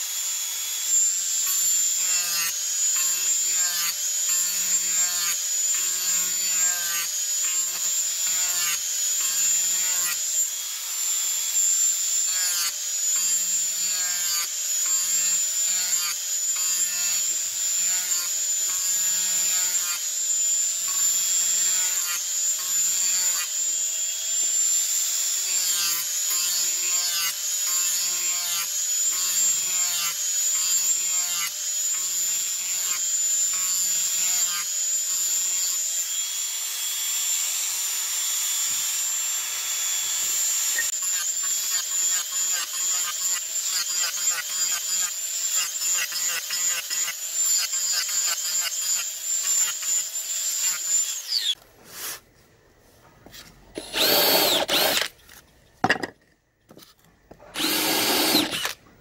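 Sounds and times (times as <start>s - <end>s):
angle grinder whining: 0.0s - 51.6s, 53.7s - 56.1s, 56.7s - 59.0s.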